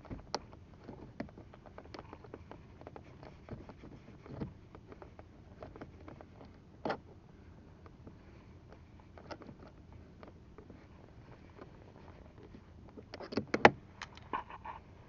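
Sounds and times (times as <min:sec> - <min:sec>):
small clicks and taps: 0:00.0 - 0:07.0, 0:07.8 - 0:14.3.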